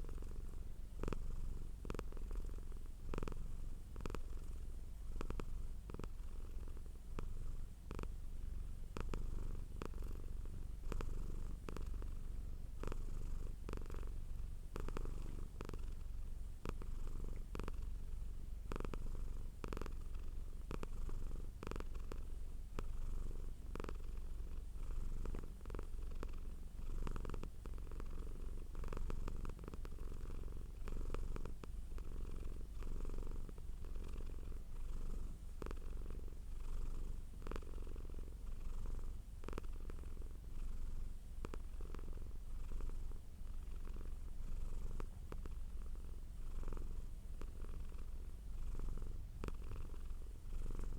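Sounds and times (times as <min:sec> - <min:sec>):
cat purring: 0:00.0 - 0:50.9.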